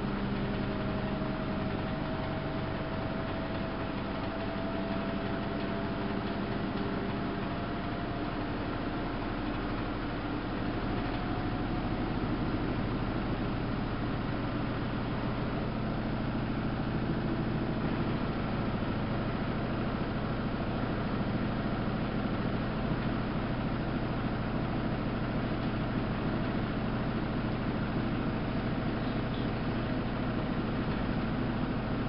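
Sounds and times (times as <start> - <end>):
washing machine humming: 0.0 - 32.0.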